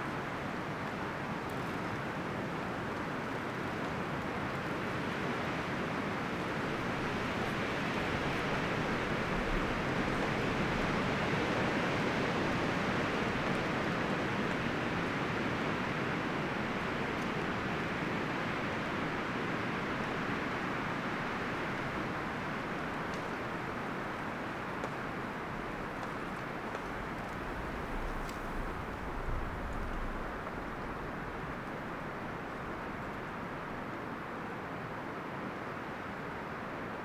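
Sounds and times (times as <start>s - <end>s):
wind rustling through trees: 0.0s - 37.0s.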